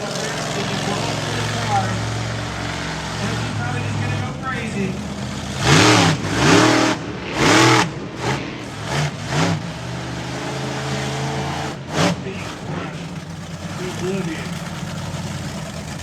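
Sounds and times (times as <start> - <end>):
engine idling: 0.0 - 16.0
truck engine revving: 0.0 - 16.0.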